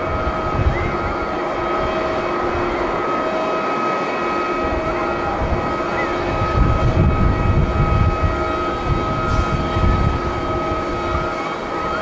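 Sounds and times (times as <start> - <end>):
wind buffeting microphone: 0.0 - 3.5, 4.3 - 12.0
jet engines whining: 0.0 - 12.0.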